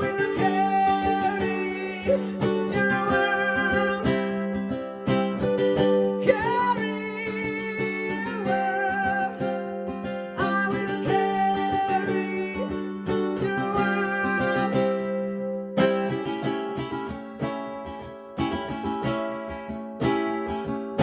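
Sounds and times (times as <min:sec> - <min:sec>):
person singing: 0:00.0 - 0:17.6
ukulele strumming: 0:00.0 - 0:21.0.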